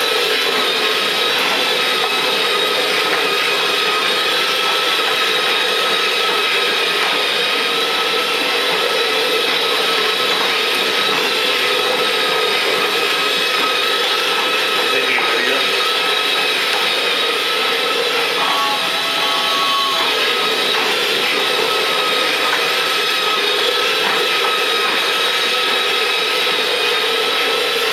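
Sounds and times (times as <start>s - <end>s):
toy train motor whine: 0.0s - 27.9s.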